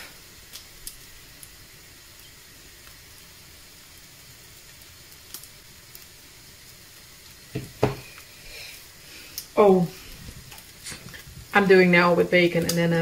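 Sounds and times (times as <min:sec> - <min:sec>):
batter and bacon sizzling: 0:00.0 - 0:13.0.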